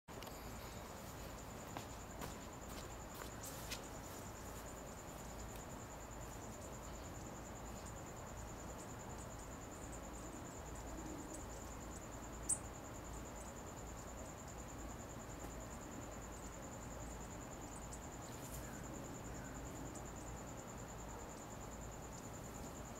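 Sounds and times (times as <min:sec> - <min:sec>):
cricket chirping: 0:00.1 - 0:22.9.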